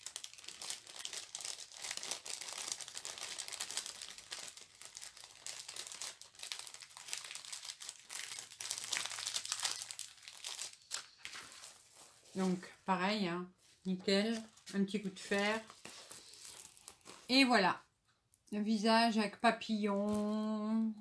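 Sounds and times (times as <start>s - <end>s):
plastic packaging crinkling: 0.0s - 12.7s, 13.6s - 17.4s, 19.9s - 20.5s.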